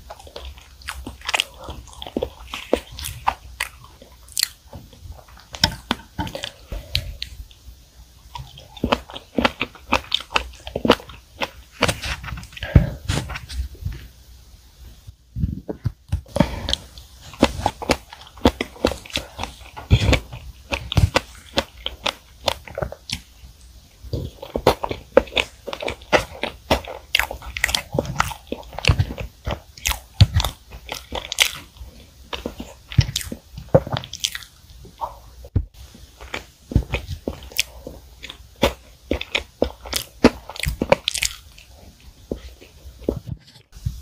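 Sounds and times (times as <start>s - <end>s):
close-miked chewing: 0.0s - 7.6s, 8.3s - 13.3s, 16.2s - 43.7s.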